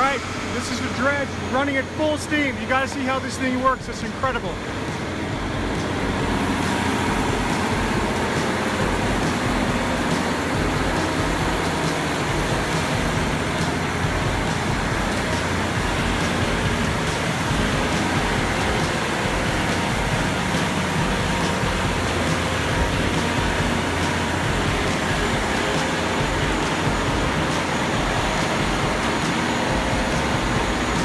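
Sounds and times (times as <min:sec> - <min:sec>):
dredge machinery running: 0:00.0 - 0:31.0.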